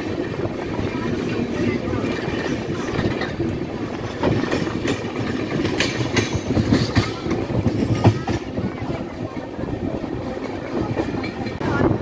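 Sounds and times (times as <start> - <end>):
train wheels rumbling on rails: 0.0 - 12.0
wheels clacking over rail joints: 0.0 - 12.0.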